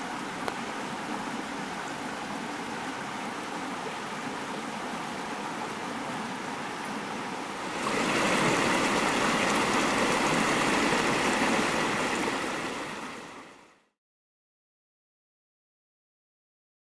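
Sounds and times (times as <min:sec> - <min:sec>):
water rushing over rocks: 0:00.0 - 0:13.6.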